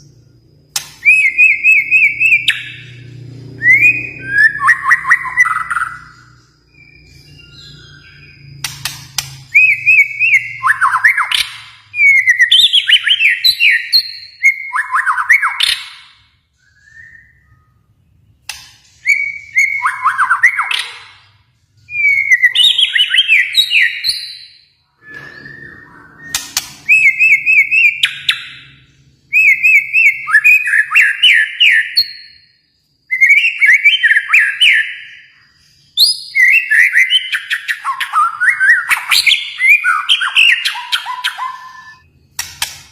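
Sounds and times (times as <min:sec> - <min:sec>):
bird singing rapid whistled notes: 0:00.0 - 0:42.9.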